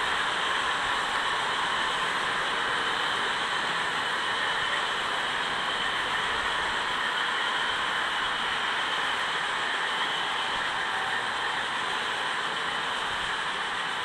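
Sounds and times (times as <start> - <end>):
model train wheels hissing on rail: 0.0 - 14.0.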